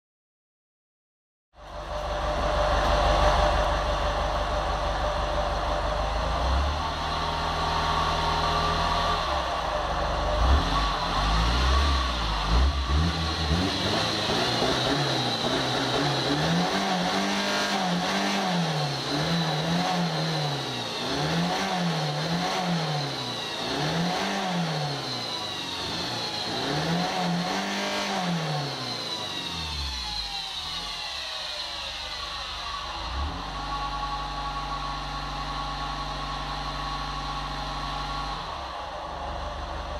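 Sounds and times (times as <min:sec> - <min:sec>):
diesel van engine revving: 0:01.6 - 0:39.9.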